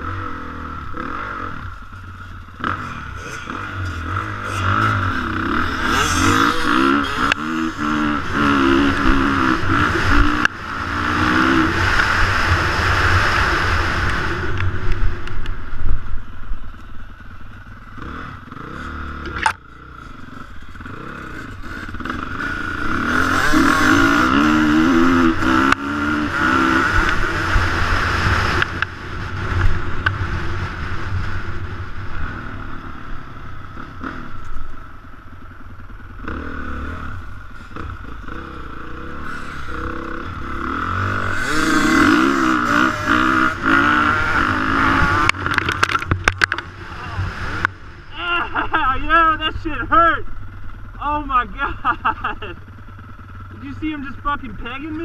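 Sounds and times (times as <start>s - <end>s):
dirt bike engine revving: 0.0s - 15.2s, 17.1s - 55.0s.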